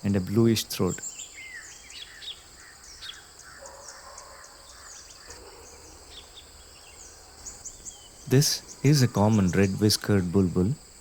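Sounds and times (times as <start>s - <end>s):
bird chirps: 0.0s - 10.7s
insects calling: 0.0s - 11.0s.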